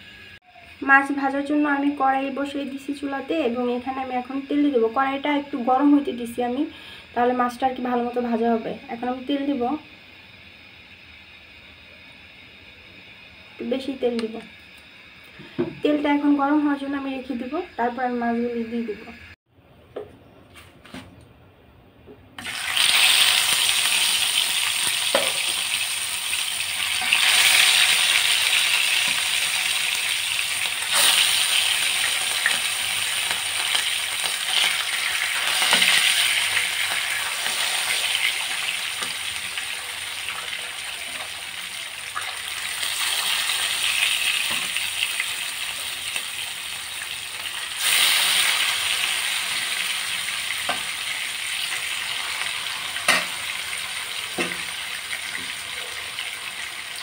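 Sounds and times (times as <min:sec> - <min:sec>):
fish sizzling in hot oil: 0:00.0 - 0:18.9, 0:22.4 - 0:57.0.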